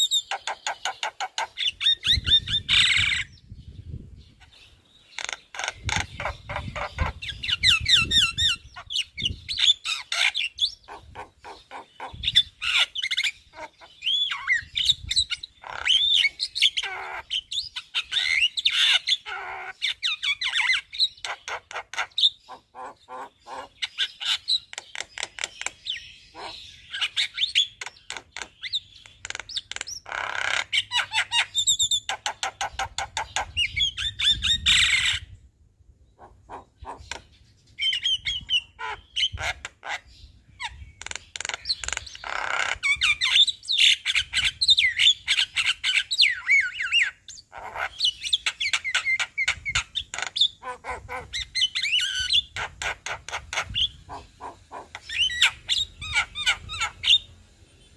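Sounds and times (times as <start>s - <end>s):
myna bird singing: 0.0s - 57.9s.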